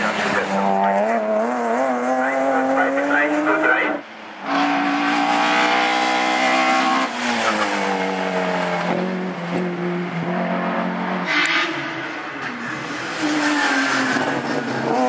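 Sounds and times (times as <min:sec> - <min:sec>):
race car engine revving: 0:00.0 - 0:15.0.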